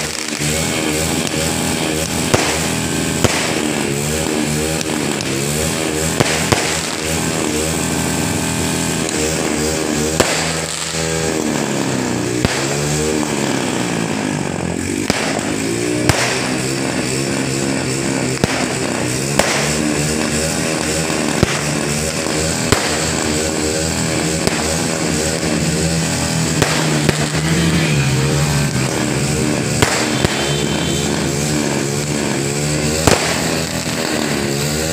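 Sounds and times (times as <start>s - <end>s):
firework bangs: 0.0s - 34.9s
motorcycle engines revving: 0.0s - 34.9s.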